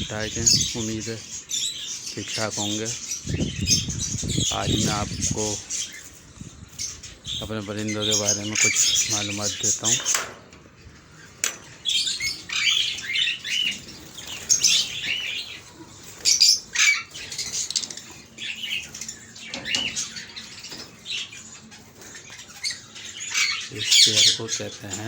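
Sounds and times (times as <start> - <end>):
lovebirds chirping and squeaking: 0.0 - 25.0.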